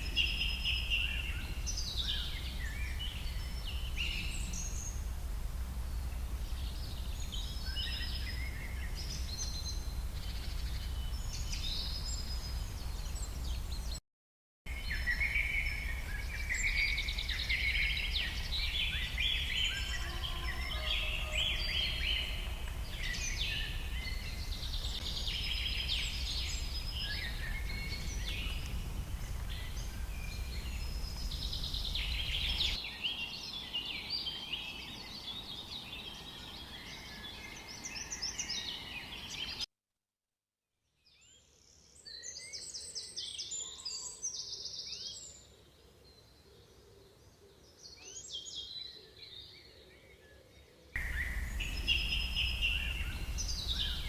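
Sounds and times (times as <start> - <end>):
birds chirping and trilling: 0.0 - 14.0, 14.7 - 39.7, 41.1 - 54.0.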